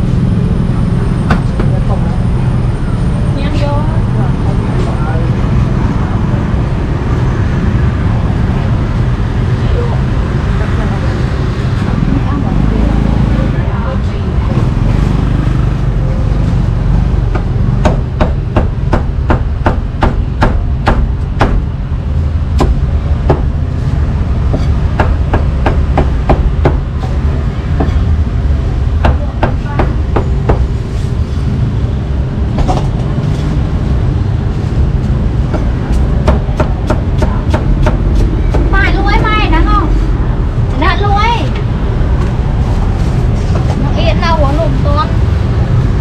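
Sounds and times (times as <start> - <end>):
low rumble of street traffic: 0.0 - 46.0.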